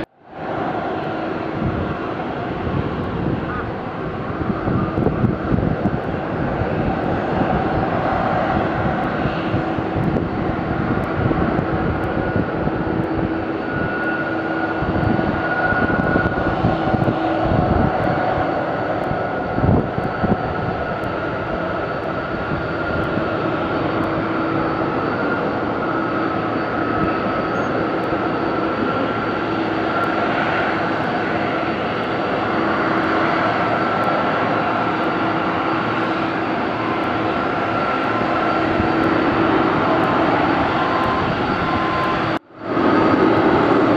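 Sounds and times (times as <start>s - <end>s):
jet engines whining: 0.0s - 43.9s
low rumbling gusts: 0.0s - 43.9s.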